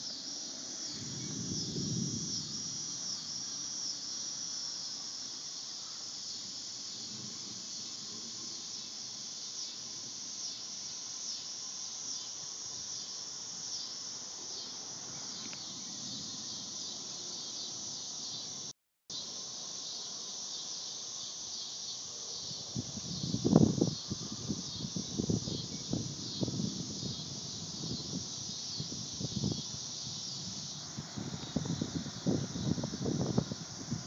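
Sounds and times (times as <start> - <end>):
insect chorus buzzing: 0.0 - 34.0.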